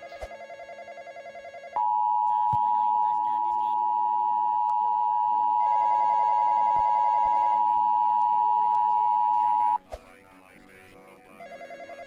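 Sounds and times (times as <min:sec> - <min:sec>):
two-tone alarm: 0:00.0 - 0:09.8, 0:11.3 - 0:12.0.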